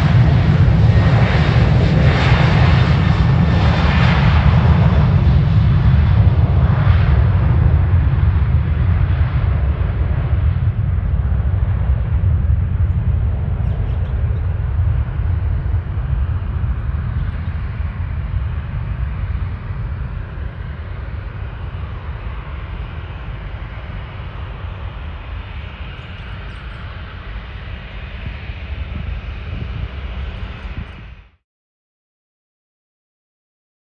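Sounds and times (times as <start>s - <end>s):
high engine whine: 0.0s - 31.4s
jet engine roar: 0.0s - 31.4s.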